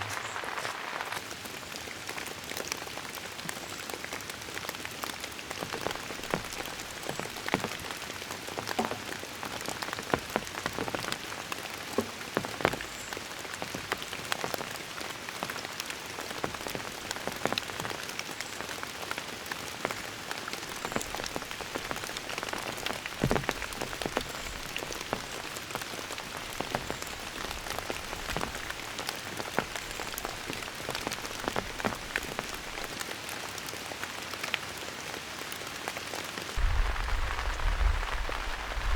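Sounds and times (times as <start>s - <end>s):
raindrops tapping close by: 0.0s - 38.9s
steady rain hiss: 0.0s - 38.9s.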